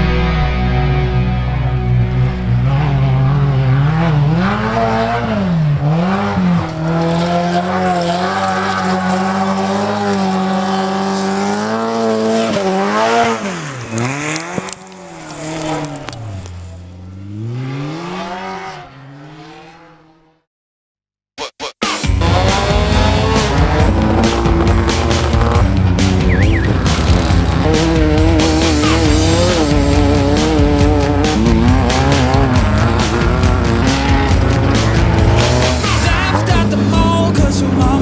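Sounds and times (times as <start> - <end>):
race vehicle engine revving: 0.0 - 20.4, 22.0 - 38.0.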